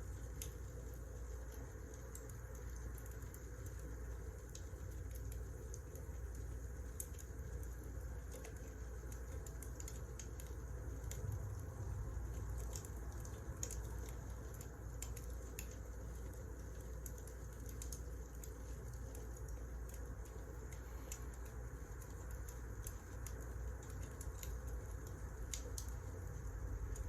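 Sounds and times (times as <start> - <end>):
low steady rumble: 0.0 - 27.0
wood fire crackling: 0.0 - 27.0.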